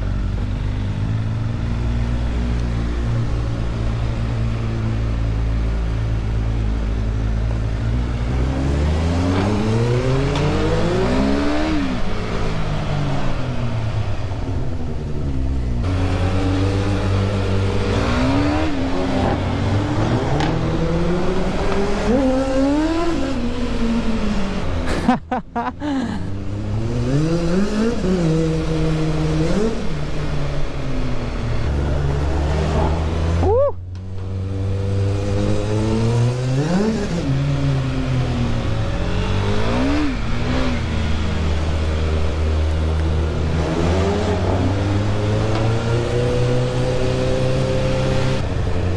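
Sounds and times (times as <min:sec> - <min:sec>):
wind and road noise: 0:00.0 - 0:48.9
vehicle engine revving: 0:07.8 - 0:14.7, 0:15.8 - 0:25.0, 0:25.8 - 0:48.9.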